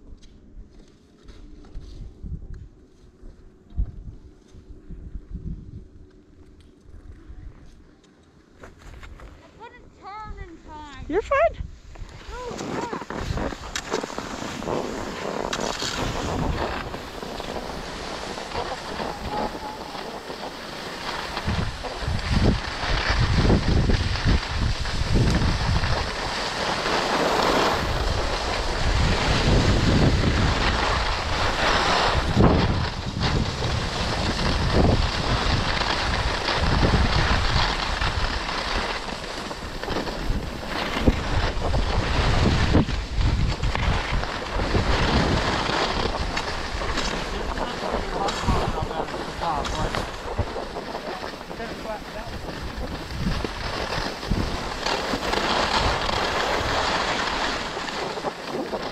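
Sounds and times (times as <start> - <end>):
skis scraping over snow: 0.6 - 2.2, 8.5 - 58.9
wind on microphone: 1.7 - 6.0, 10.2 - 58.9.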